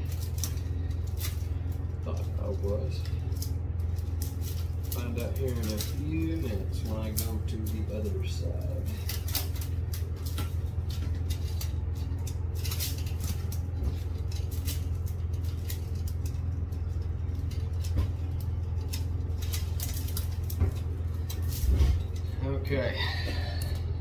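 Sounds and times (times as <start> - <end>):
low hum: 0.0 - 24.0
plastic tubes rustling: 0.0 - 24.0.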